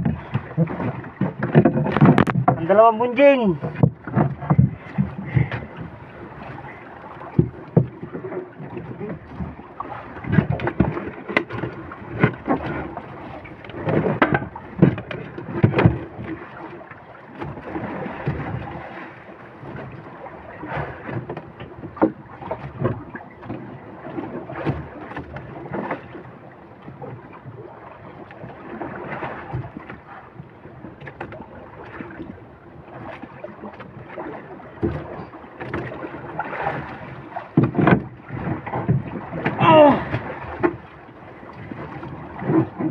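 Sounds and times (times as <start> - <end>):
boat knocks and bumps: 0.0 - 42.9
water lapping against boat hull: 0.0 - 42.9.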